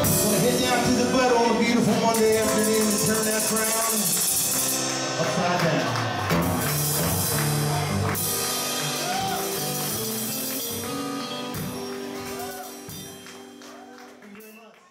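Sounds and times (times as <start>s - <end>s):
live rock band playing: 0.0s - 14.6s.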